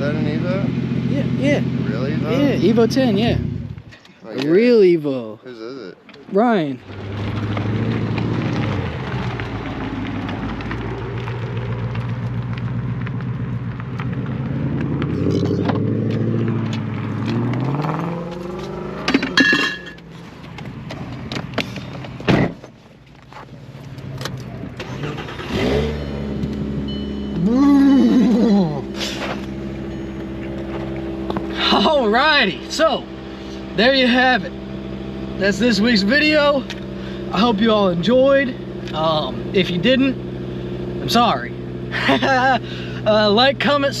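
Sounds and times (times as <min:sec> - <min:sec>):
car engines accelerating: 0:00.0 - 0:44.0.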